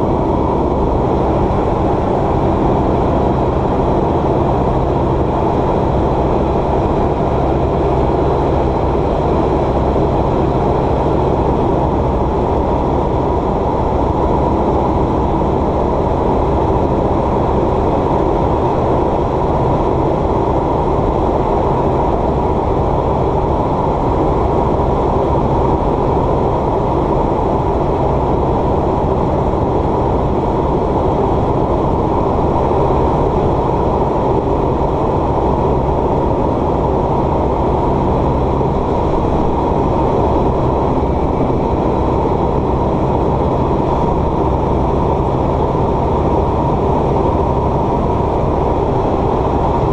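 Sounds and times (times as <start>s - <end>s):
propeller aircraft engine drone: 0.0s - 49.9s.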